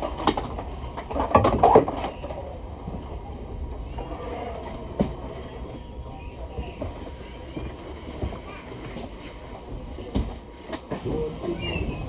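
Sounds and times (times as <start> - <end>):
bus engine rumble: 2.0 - 12.0.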